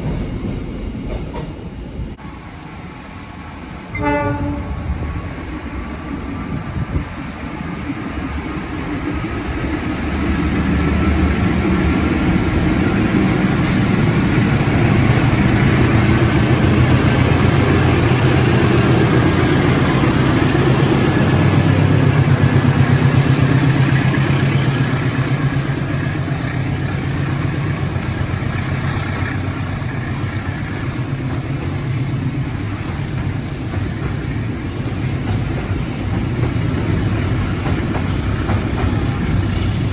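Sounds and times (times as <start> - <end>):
diesel locomotive passing: 0.0 - 39.9.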